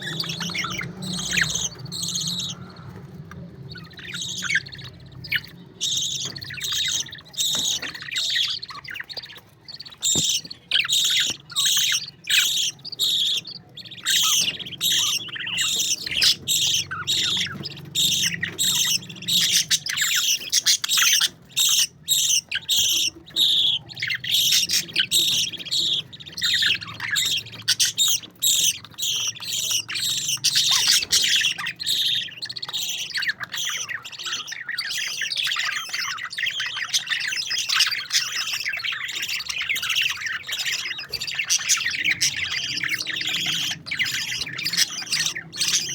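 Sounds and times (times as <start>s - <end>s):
parakeets chattering: 0.0s - 45.9s.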